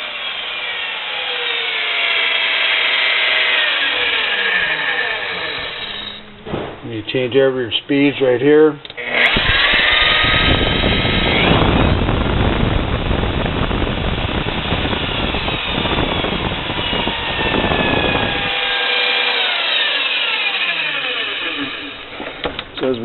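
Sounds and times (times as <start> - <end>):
drill press motor whining: 0.0 - 6.4, 8.8 - 22.9.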